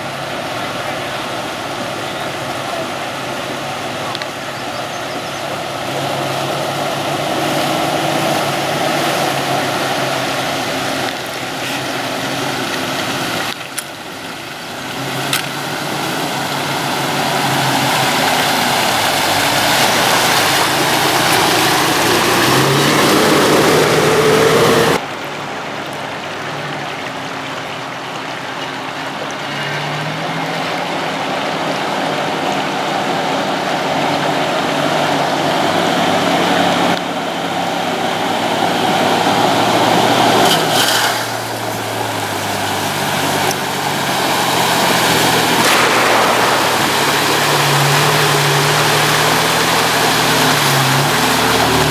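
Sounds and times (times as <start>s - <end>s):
water splashing around wheels: 0.0s - 51.9s.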